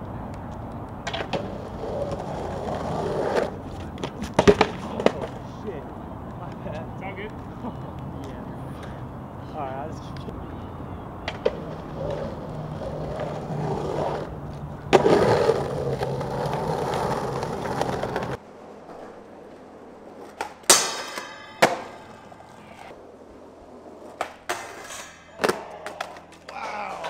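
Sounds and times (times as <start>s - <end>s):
skateboard clacks: 0.0s - 9.0s, 11.2s - 27.0s
skateboard wheels rolling: 0.0s - 27.0s.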